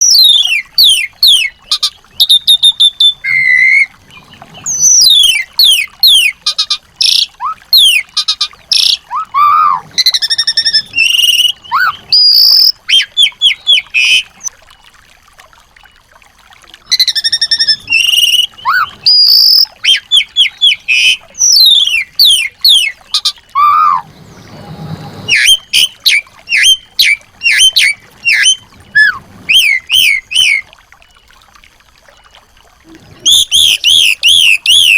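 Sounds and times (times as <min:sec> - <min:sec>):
songbirds singing: 0:00.0 - 0:14.9, 0:16.8 - 0:34.9.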